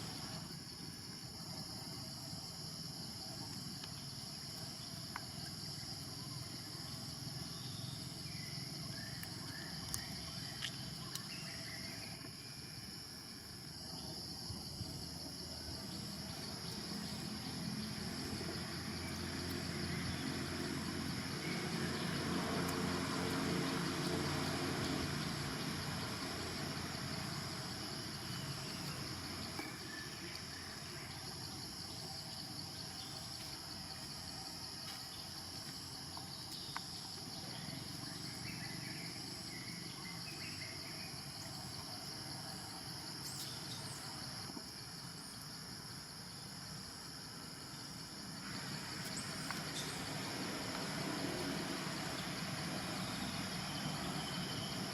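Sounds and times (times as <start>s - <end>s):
insect chorus: 0.0s - 54.9s.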